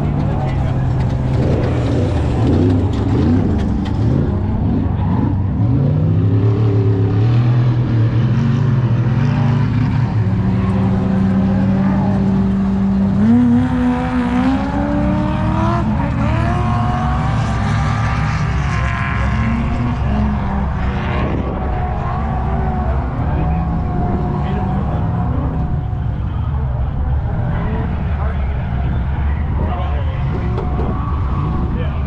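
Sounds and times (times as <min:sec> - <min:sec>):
vehicle engines revving: 0:00.0 - 0:32.0.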